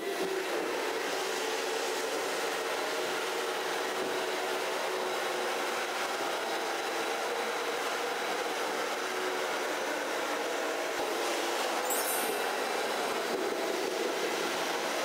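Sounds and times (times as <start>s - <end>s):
floor scrubber motor hum and whine: 0.0s - 15.0s.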